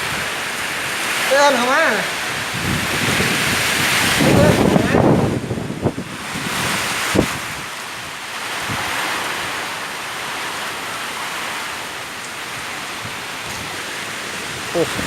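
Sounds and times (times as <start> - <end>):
heavy rain in wind: 0.0 - 15.0.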